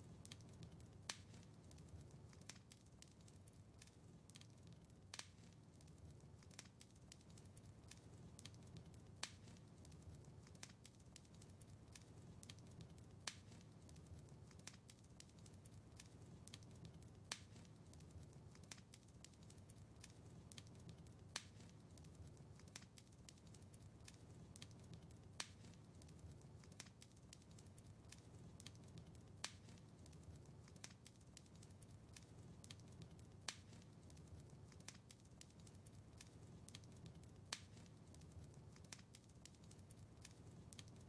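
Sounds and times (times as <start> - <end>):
wood fire crackling faintly: 0.0 - 41.0.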